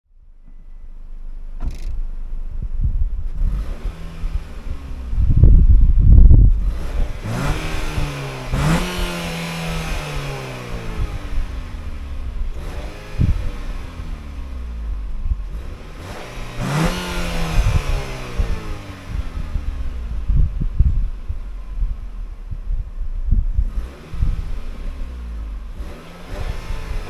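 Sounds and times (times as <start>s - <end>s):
car engine revving: 0.4s - 27.0s.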